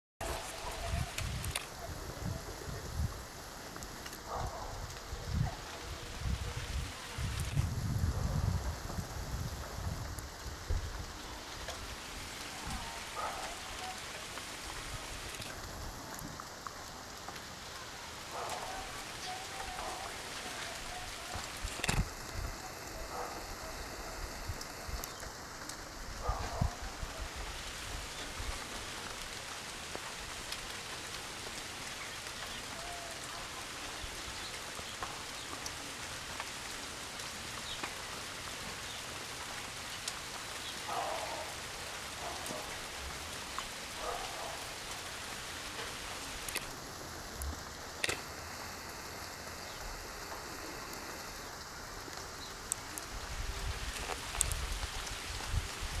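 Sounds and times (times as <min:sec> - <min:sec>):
rain hissing on a pond: 0:00.2 - 0:56.0.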